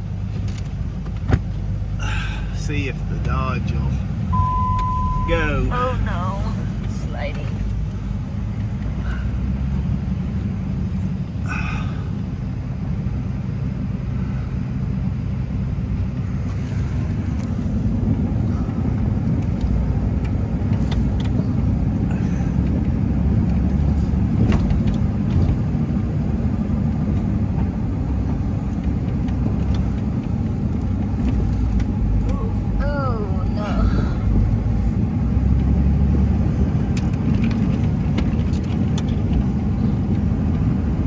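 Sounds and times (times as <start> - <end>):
truck engine rumbling: 0.0 - 41.0.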